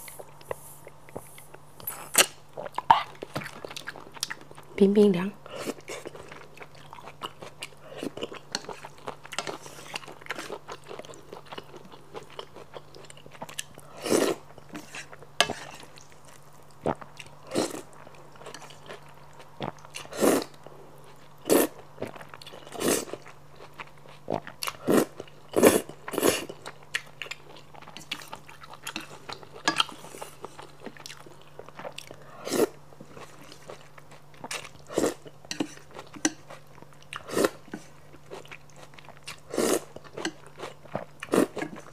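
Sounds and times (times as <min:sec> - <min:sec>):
chewing: 0:05.6 - 0:20.1, 0:22.0 - 0:41.9.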